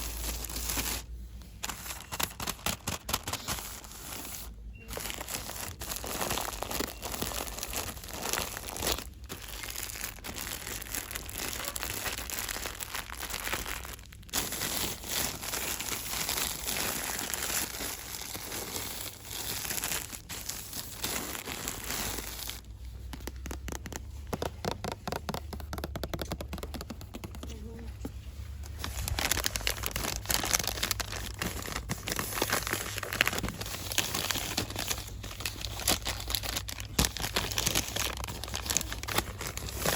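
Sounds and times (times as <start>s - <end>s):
packaging crinkling and rustling: 0.0s - 39.9s.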